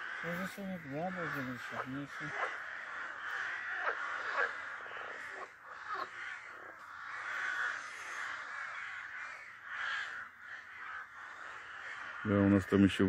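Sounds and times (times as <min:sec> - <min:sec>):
crows cawing: 0:00.0 - 0:13.0.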